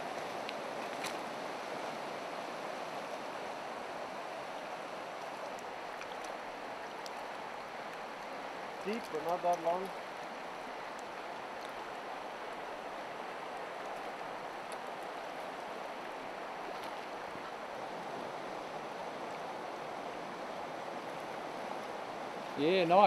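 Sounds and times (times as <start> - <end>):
river flowing over rocks: 0.0 - 23.0.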